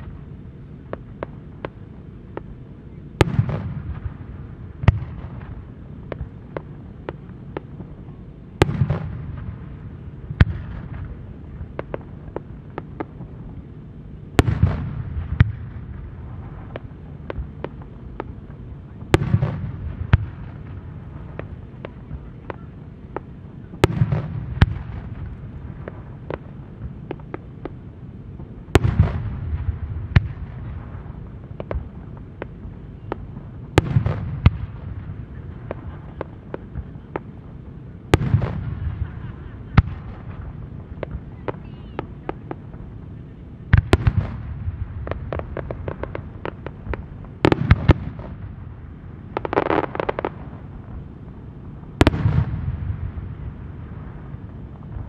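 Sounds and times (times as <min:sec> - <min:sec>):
firework pops and crackles: 0:00.0 - 0:02.6, 0:03.2 - 0:51.1, 0:51.7 - 0:55.0.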